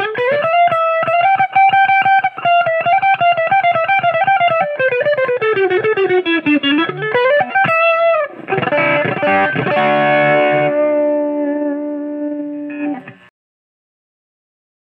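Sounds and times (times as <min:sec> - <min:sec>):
electric guitar single picked notes: 0:00.0 - 0:13.3
electric guitar strummed chords: 0:00.0 - 0:13.3.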